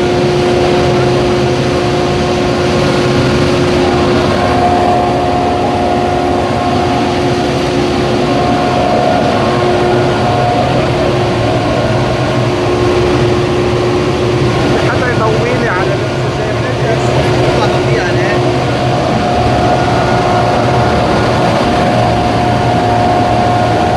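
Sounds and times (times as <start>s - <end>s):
industrial machinery running: 0.0s - 23.9s
steady mechanical hum: 0.0s - 23.9s.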